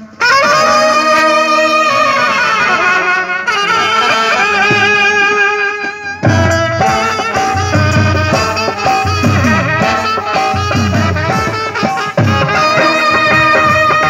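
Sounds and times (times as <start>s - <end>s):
brass band playing: 0.0s - 14.0s
drums: 0.0s - 14.0s.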